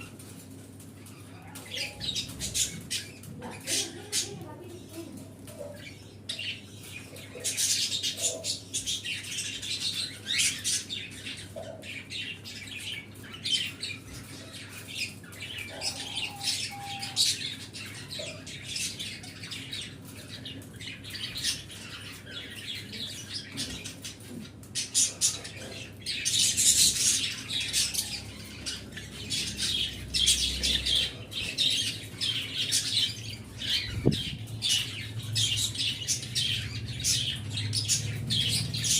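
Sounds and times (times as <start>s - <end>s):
small birds chirping and squawking: 0.0s - 38.9s.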